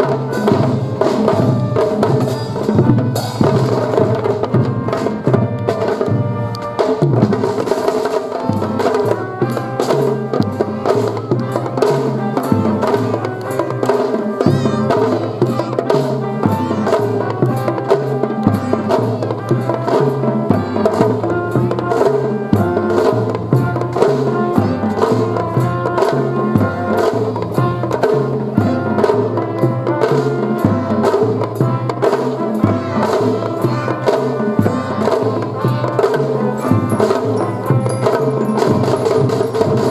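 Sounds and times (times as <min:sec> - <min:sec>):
drums keeping a steady beat: 0:00.0 - 0:39.9
fife band playing a march: 0:00.0 - 0:39.9.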